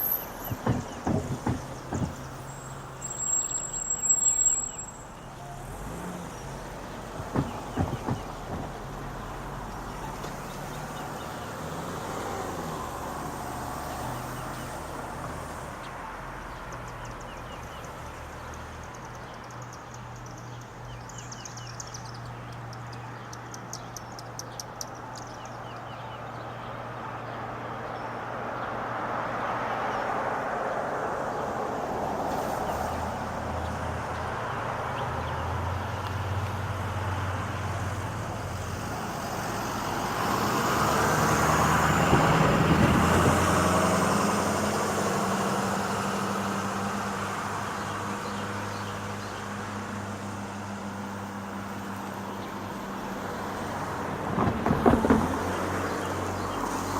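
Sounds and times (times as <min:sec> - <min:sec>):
cars passing: 0:00.0 - 0:56.9.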